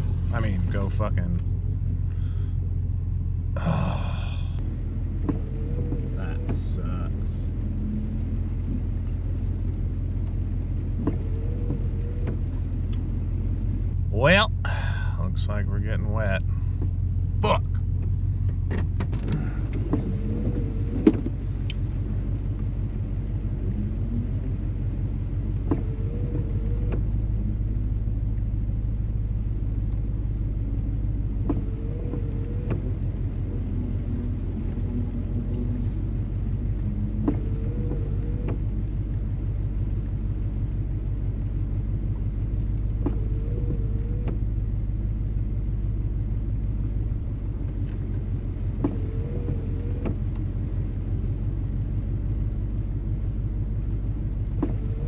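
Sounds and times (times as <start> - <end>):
truck engine low rumble: 0.0 - 55.0.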